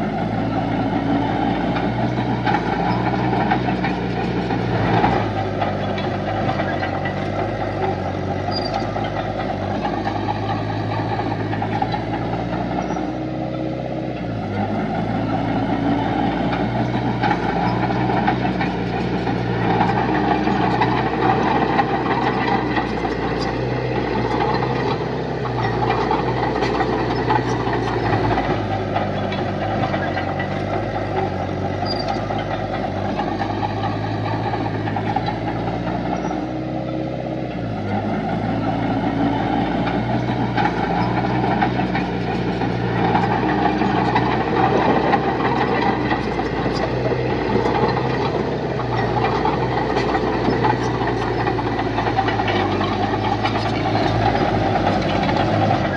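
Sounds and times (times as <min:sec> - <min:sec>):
construction machine diesel engine: 0:00.0 - 0:55.9.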